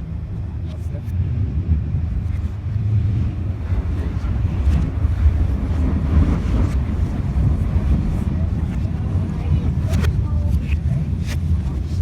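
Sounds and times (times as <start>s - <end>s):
underground train rumbling: 0.0s - 12.0s.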